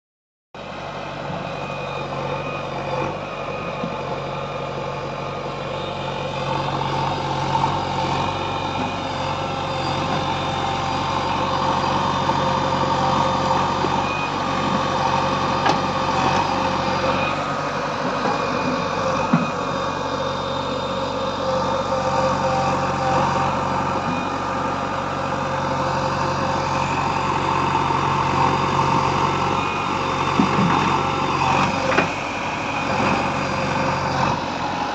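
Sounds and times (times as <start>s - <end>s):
diesel engines running: 0.6s - 34.9s.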